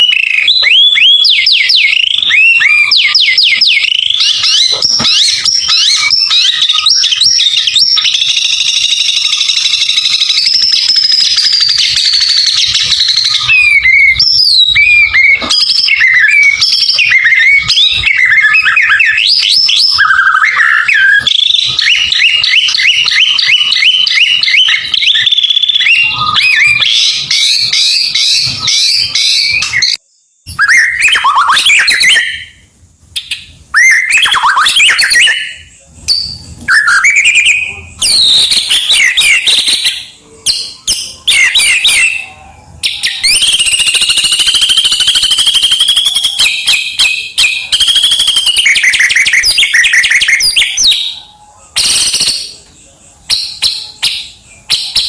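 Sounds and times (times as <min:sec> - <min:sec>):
bird singing varied whistles: 0:00.0 - 0:55.0.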